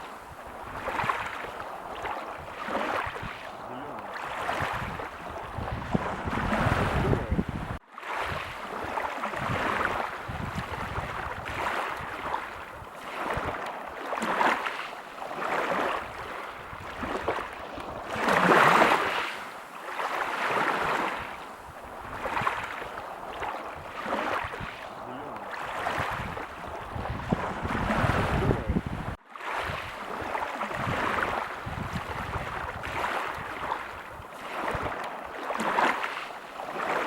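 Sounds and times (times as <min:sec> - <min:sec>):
wind rumbling on microphone: 0:00.0 - 0:14.5, 0:15.1 - 0:37.0
ocean waves breaking on beach: 0:00.0 - 0:37.0.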